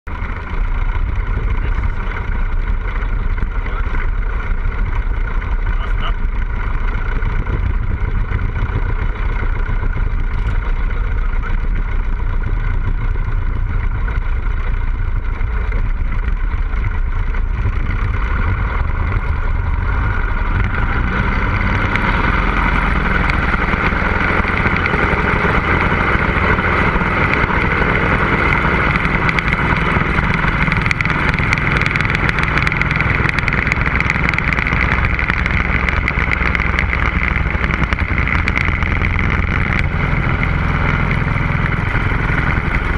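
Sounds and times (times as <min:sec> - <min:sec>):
light aircraft engine and propeller: 0:00.1 - 0:42.9.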